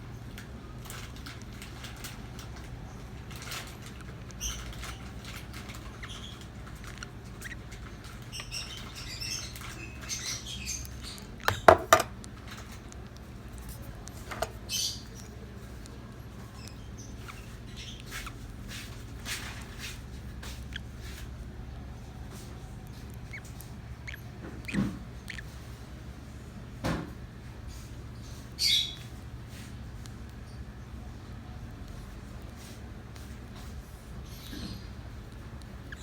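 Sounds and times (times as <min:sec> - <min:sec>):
birds chirping squeakily: 0:00.8 - 0:26.1, 0:27.6 - 0:36.0.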